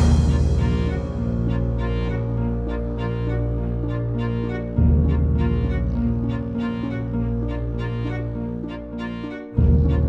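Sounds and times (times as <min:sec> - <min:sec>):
deep bass notes: 0:00.0 - 0:08.6, 0:09.6 - 0:10.0
bowed string music: 0:00.0 - 0:10.0.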